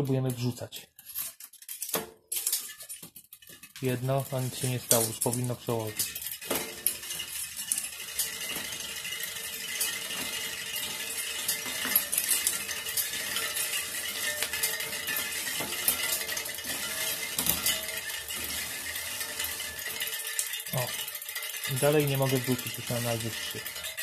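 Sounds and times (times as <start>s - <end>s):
bicycle chain clattering: 0.0s - 24.0s.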